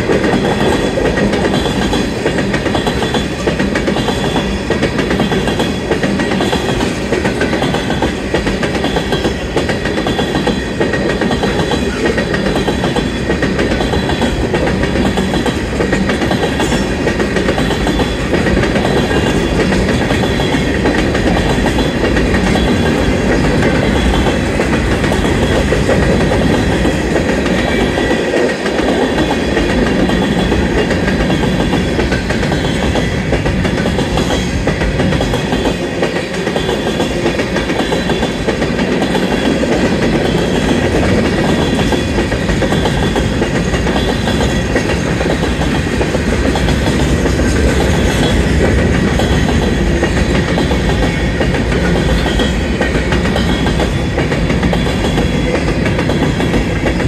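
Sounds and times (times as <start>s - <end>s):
freight train rumbling and rattling: 0.0s - 57.0s
wheels clacking over rails: 0.0s - 57.0s.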